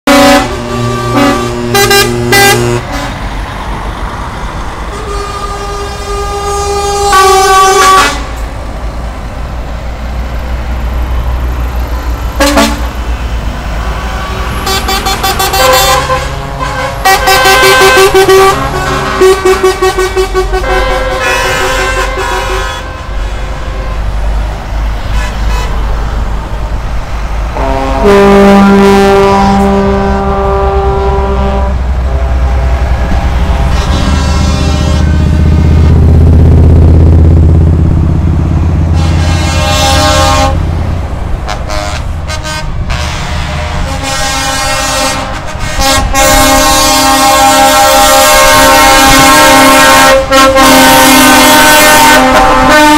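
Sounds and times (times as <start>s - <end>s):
truck horns tooting and blasting: 0.0s - 3.4s, 4.8s - 8.4s, 12.1s - 26.1s, 27.5s - 36.1s, 38.8s - 40.8s, 41.4s - 52.9s
heavy truck engines rumbling: 0.0s - 52.9s.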